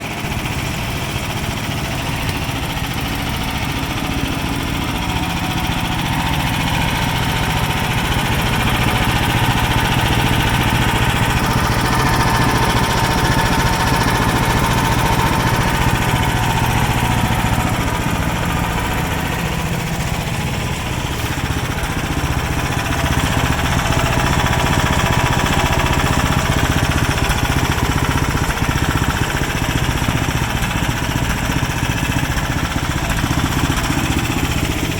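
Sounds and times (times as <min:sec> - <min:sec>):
snowblower engine running: 0:00.0 - 0:34.9.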